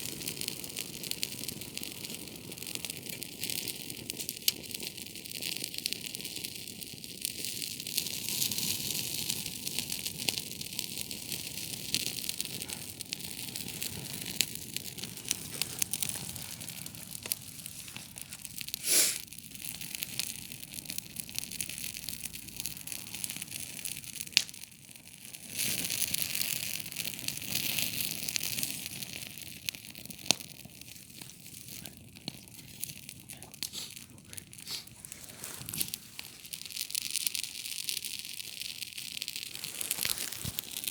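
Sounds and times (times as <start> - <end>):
campfire crackling: 0.0 - 40.9
sharp fire pops: 0.0 - 40.9.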